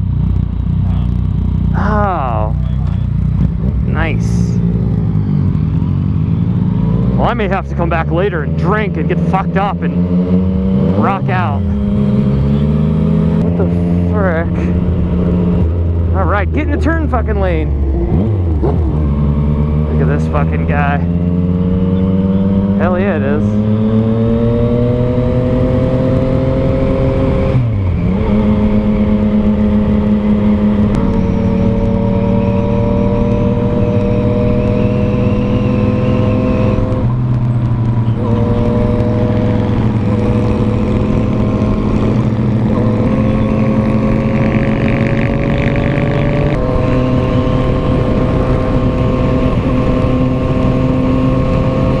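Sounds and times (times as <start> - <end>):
motorcycle engine riding: 0.0 - 52.0.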